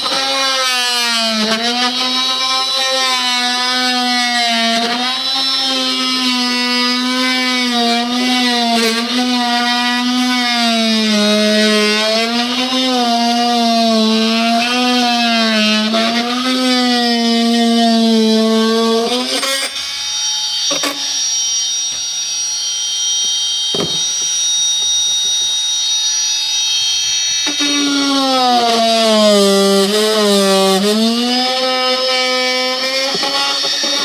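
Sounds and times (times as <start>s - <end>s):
oscillating multi-tool buzzing: 0.0s - 34.0s.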